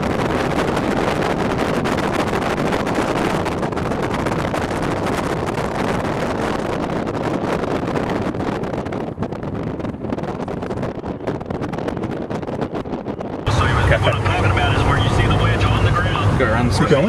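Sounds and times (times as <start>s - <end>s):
moving vehicle running: 0.0s - 17.0s
wind noise on microphone: 0.0s - 17.0s.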